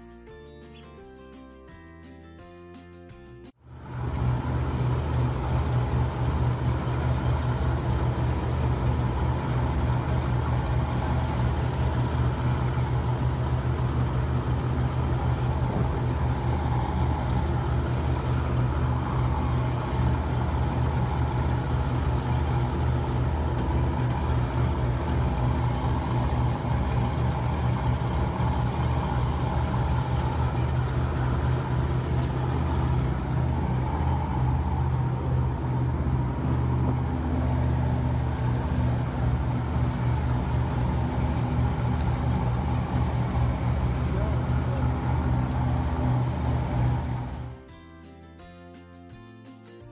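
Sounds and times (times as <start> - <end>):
boat engine droning: 3.7 - 47.6
rush of wake water: 4.0 - 47.4.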